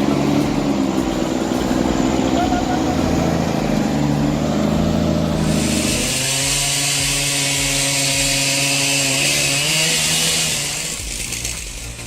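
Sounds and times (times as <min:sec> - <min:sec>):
engine running at high speed: 0:00.0 - 0:12.0
loud hissing cutting noise: 0:00.0 - 0:12.0.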